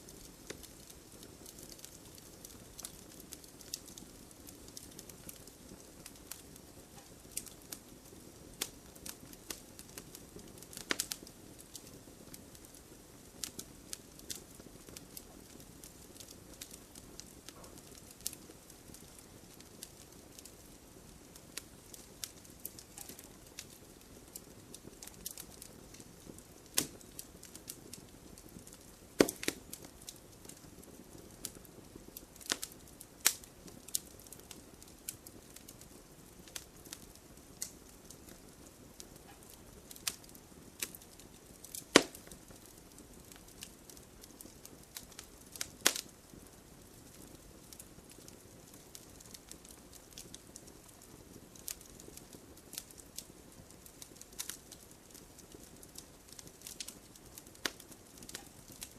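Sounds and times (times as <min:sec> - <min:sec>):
burning wood crackling and popping: 0:00.0 - 0:58.9
campfire hissing: 0:00.0 - 0:58.9.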